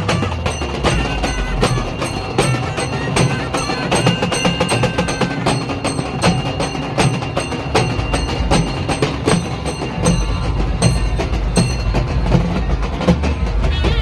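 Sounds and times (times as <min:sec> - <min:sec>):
frame drums beaten with sticks: 0:00.0 - 0:14.0.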